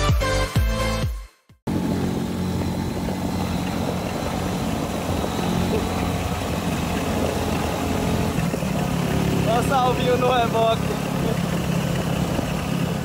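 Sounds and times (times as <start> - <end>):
motorcycle engine running steadily: 1.7 - 13.0.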